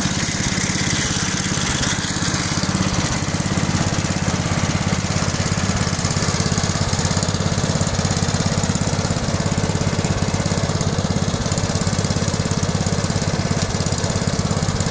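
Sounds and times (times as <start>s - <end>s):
small tractor engine running: 0.0s - 14.9s.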